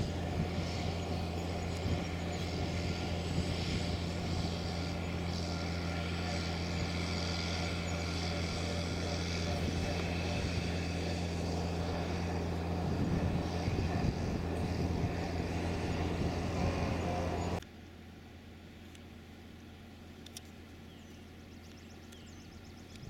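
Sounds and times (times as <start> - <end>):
car engine hum: 0.0 - 23.0
road and tyre noise: 0.0 - 23.0.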